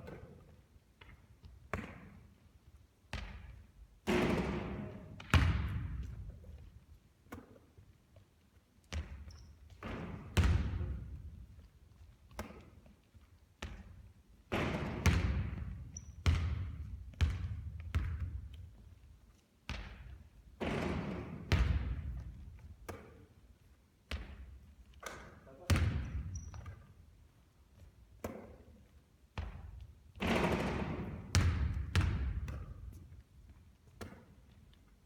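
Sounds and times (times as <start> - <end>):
basketball bouncing with echo: 0.0 - 2.4, 3.0 - 6.7, 8.8 - 12.9, 13.6 - 18.9, 19.7 - 27.0, 27.7 - 34.7.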